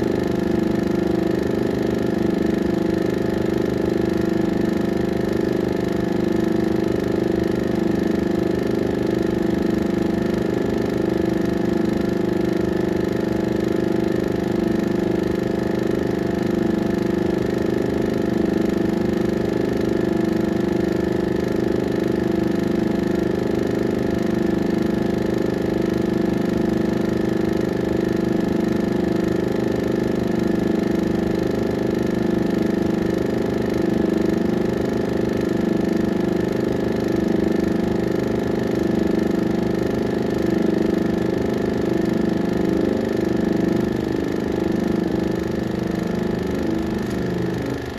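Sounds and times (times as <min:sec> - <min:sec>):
film projector running: 0:00.0 - 0:47.9.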